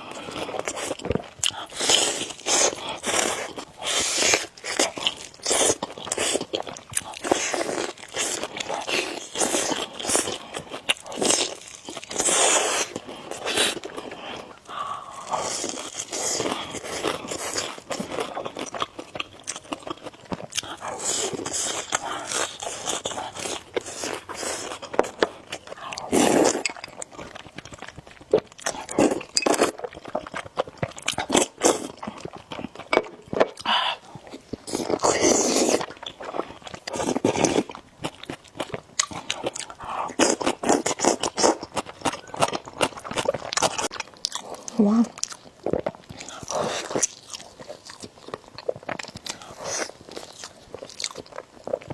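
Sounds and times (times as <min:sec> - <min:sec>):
noodles slurped and chewed: 0:00.0 - 0:51.9.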